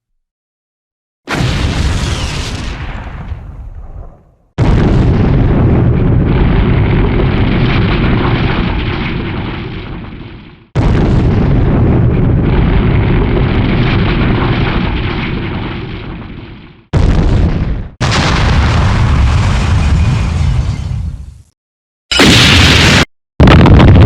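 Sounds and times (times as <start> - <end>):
explosion with long rumble: 1.3 - 21.5, 22.2 - 24.0.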